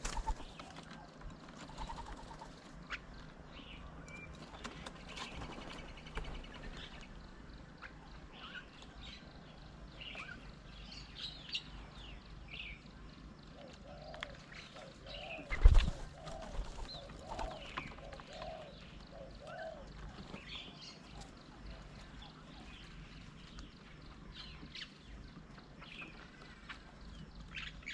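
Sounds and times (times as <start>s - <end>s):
birds chirping and calling: 0.0s - 27.9s.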